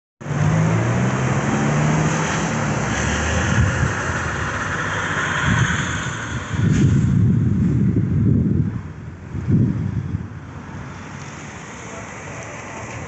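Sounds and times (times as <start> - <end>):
car engine hum: 0.2 - 13.0
steady road noise: 0.2 - 13.0.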